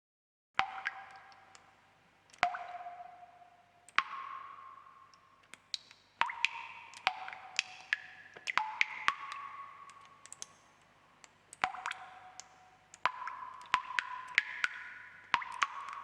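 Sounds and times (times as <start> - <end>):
water drops plopping into water: 0.6 - 16.0.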